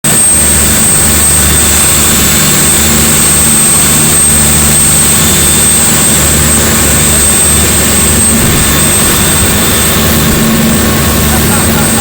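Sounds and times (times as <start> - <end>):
motorboat engine humming: 0.0 - 12.0
thin high whine: 0.1 - 12.0.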